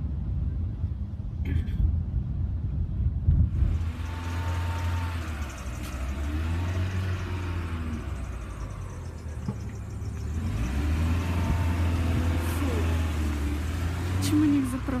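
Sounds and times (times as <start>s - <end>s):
low rumble of motor vehicles: 0.0s - 15.0s.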